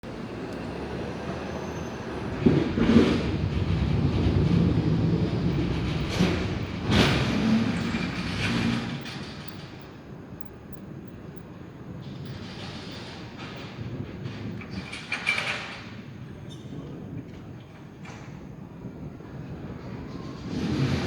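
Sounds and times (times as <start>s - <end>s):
thunder rumbling and cracking: 0.1s - 21.0s.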